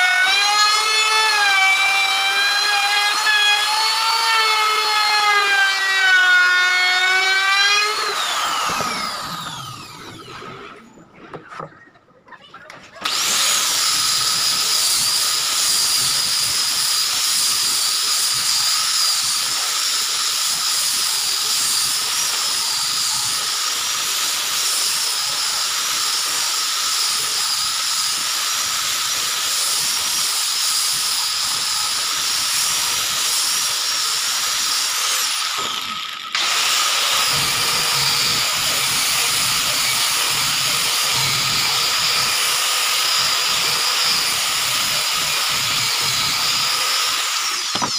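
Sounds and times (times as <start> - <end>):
angle grinder sanding wood: 0.0 - 10.9, 13.0 - 47.9.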